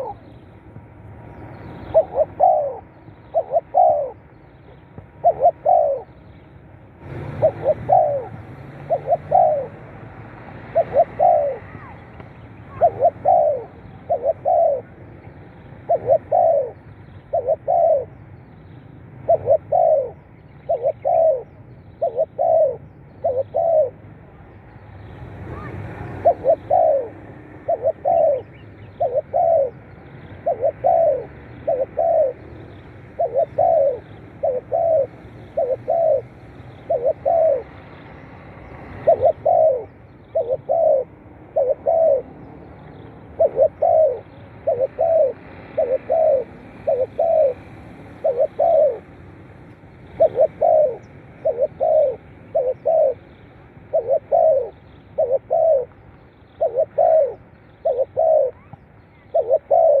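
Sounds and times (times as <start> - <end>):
dove cooing: 0.0 - 0.5, 1.5 - 6.3, 7.0 - 24.2, 25.0 - 60.0.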